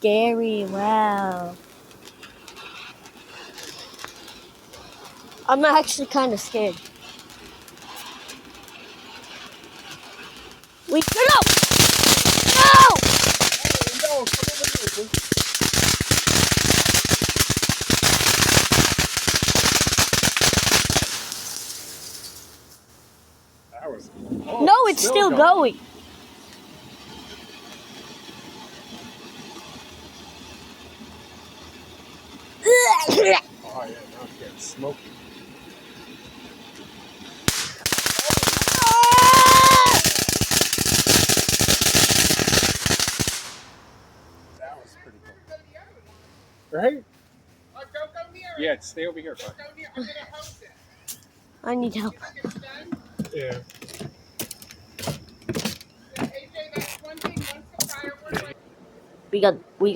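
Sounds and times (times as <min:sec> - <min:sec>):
firework cracks and pops: 0:00.0 - 0:23.2, 0:24.2 - 0:44.6, 0:51.0 - 0:58.6.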